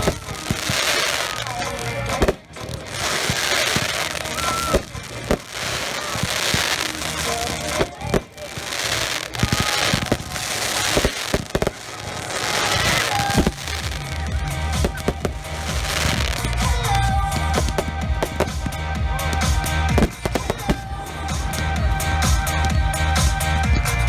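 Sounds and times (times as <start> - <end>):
fireworks bangs: 0.0 - 23.6
fireworks crackling hiss: 0.0 - 23.7.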